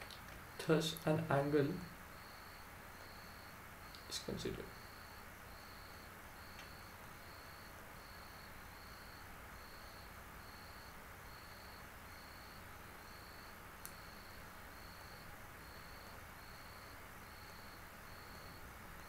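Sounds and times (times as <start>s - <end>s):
steady low hiss: 0.0s - 19.0s
cricket chirping: 1.3s - 18.7s.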